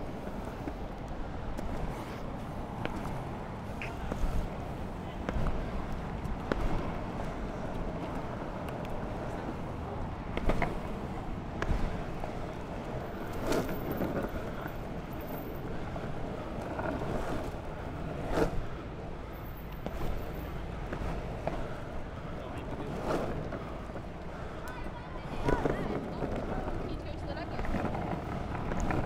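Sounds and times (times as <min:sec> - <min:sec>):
skateboard wheels rolling on asphalt: 0:00.0 - 0:29.0.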